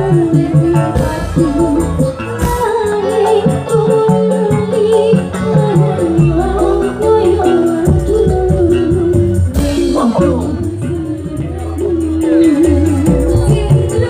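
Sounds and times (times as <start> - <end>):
live band music: 0.0 - 14.0
woman singing: 0.0 - 14.0.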